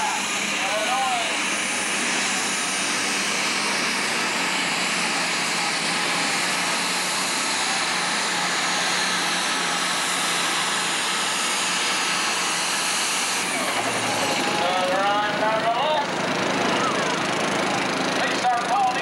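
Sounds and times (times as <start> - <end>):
diesel tractor engine screaming: 0.0 - 19.0.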